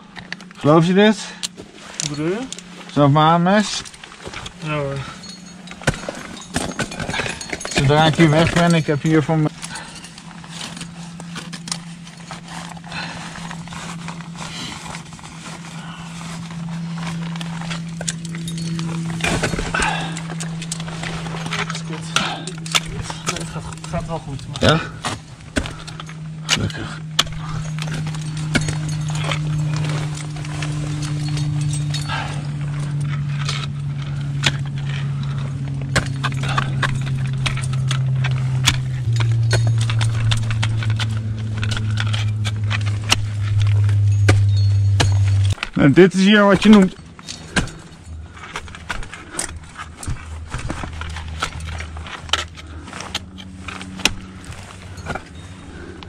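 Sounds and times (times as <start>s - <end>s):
rope against rock: 0.0s - 56.0s
steady low hum: 0.0s - 56.0s
climbing gear clinking: 0.1s - 56.0s
metal clicks and scrapes on rock: 3.6s - 15.7s, 16.4s - 56.0s.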